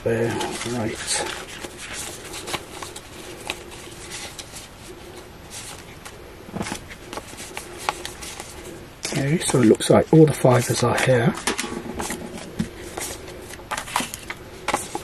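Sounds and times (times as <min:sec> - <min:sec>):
banknotes rustling and crackling: 0:00.0 - 0:15.0.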